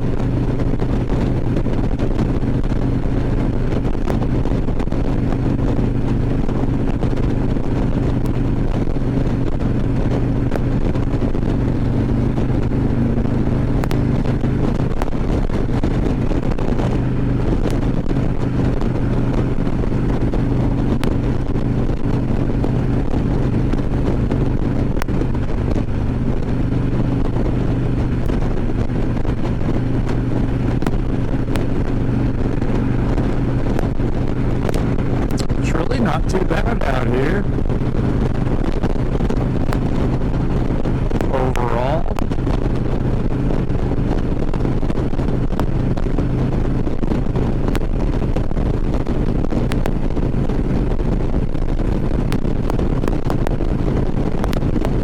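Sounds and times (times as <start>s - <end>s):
motorcycle engine cruising: 0.0s - 55.0s
wind rushing on microphone: 0.0s - 55.0s.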